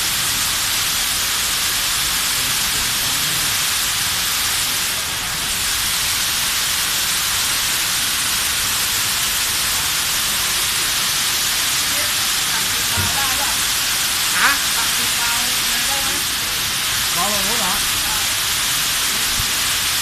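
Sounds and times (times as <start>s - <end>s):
sprinkler spray hissing on plastic: 0.0s - 20.0s.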